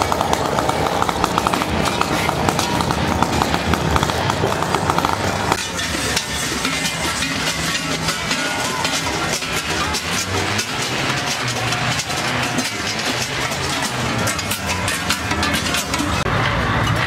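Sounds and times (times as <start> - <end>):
cowbells clanging: 0.0 - 17.0
low engine-like drone: 0.0 - 17.0.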